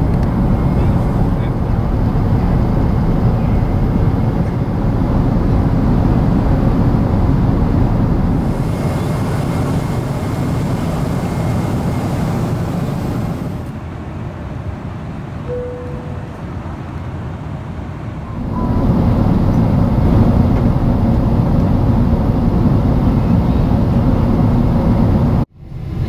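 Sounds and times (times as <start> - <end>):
jet engine rumble in cabin: 0.0 - 26.0
rushing air: 0.0 - 26.0.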